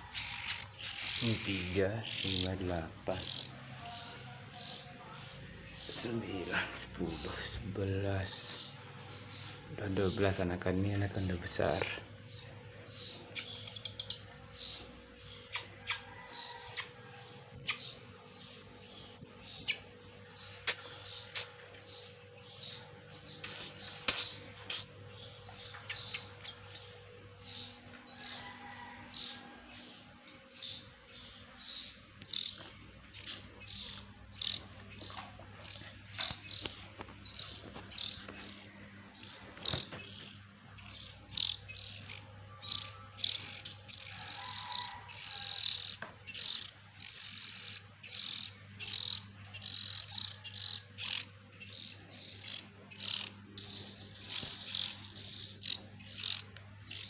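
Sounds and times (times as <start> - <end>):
bird chicks chirping: 0.0 - 57.0.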